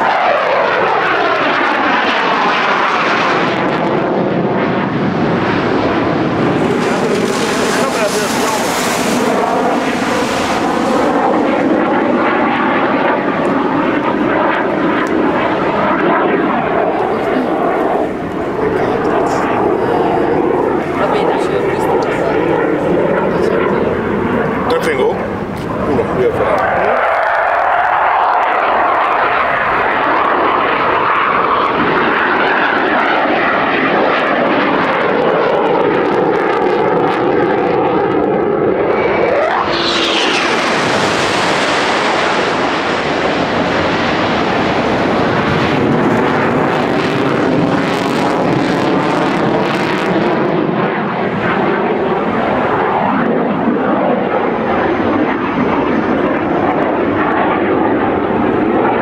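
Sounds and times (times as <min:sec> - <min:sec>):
loud jet noise overhead: 0:00.0 - 0:59.0.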